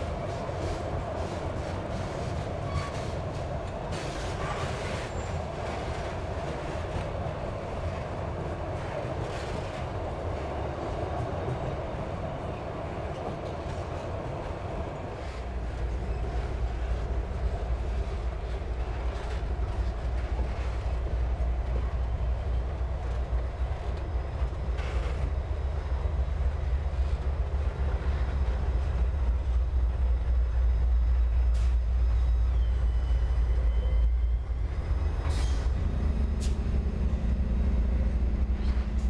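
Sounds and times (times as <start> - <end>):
train wagons rumbling on track: 0.0 - 39.0.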